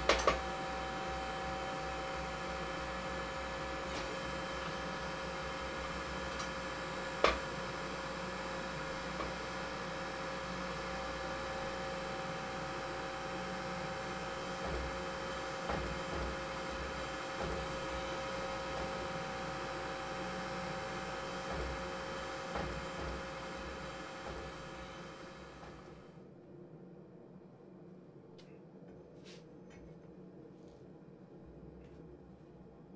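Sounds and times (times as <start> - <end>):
electric hum of shop machinery: 0.0 - 32.9.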